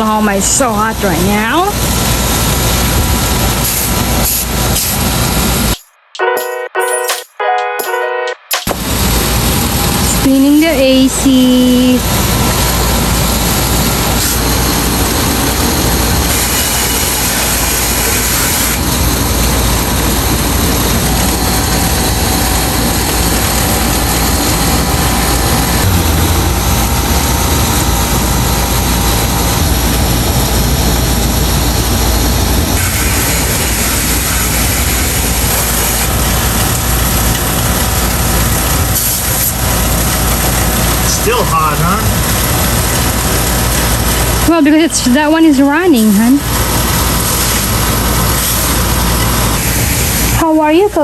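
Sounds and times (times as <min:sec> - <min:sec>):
air conditioner humming: 0:00.0 - 0:51.0
hose spraying water: 0:00.6 - 0:05.8, 0:08.7 - 0:50.8.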